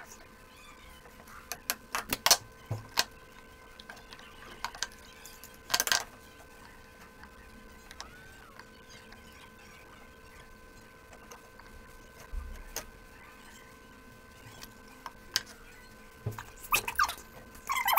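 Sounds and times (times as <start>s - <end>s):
steady electrical hum: 0.0s - 17.9s.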